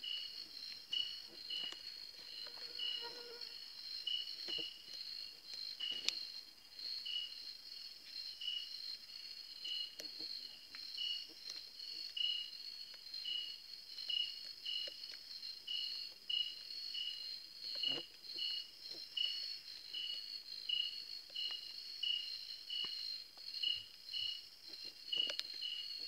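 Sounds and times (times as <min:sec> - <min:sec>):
insects chirping: 0:00.0 - 0:26.0
insects trilling: 0:00.0 - 0:26.0.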